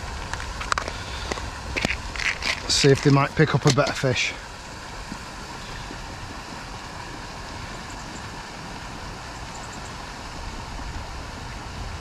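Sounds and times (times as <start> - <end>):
aerator churning water: 0.0 - 12.0.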